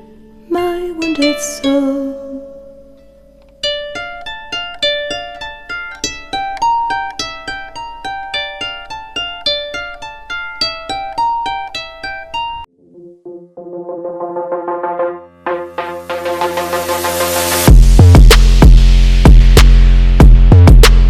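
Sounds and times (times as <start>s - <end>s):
instrumental music quick notes: 3.6s - 21.0s.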